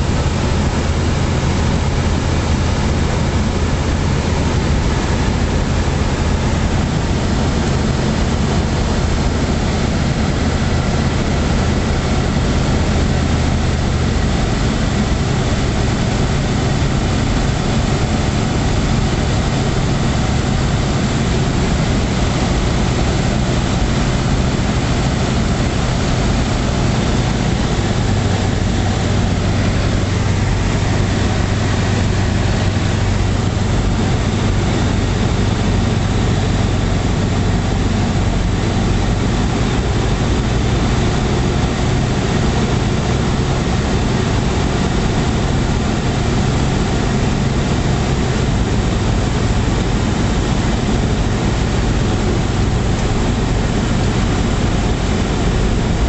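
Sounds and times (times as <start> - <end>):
aircraft engine droning: 0.0 - 56.0
rushing air: 0.0 - 56.0.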